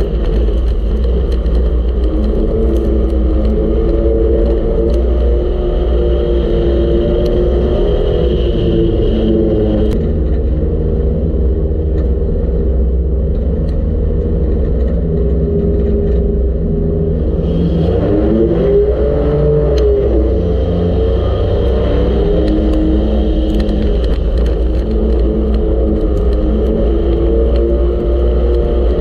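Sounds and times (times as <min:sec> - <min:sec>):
race car engine revving: 0:00.0 - 0:12.2, 0:13.4 - 0:29.0.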